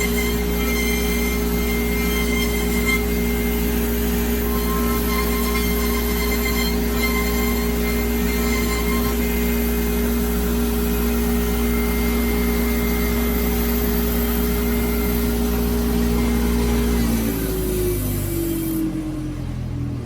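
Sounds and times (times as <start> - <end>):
router spindle humming: 0.0 - 19.6.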